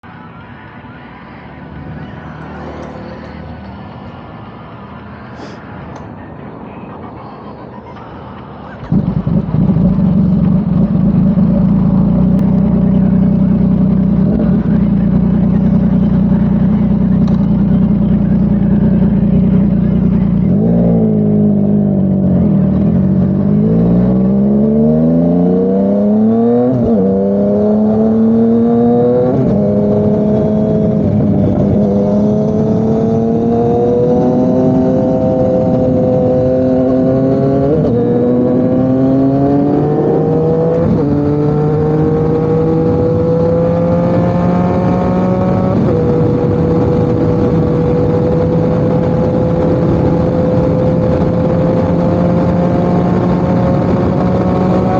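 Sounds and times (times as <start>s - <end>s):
motorcycle engine revving through gears: 8.8s - 54.9s.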